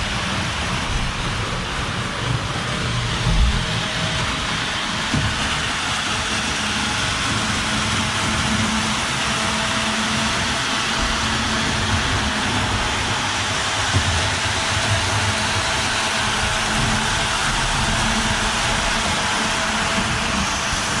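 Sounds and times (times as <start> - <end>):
model train rolling rumble: 0.0 - 21.0.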